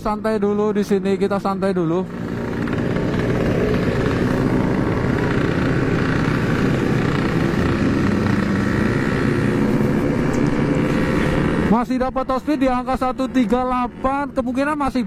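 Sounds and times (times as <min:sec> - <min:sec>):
two-stroke motorcycle engine cruising: 0:00.0 - 0:15.0.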